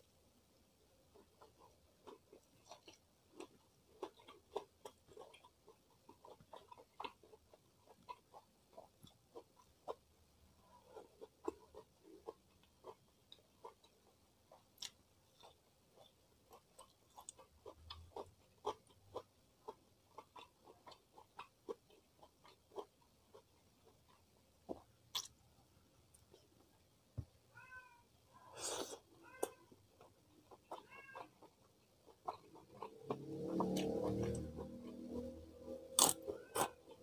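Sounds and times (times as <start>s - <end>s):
crunchy food chewing: 1.1s - 10.1s, 10.7s - 25.4s, 28.6s - 37.0s.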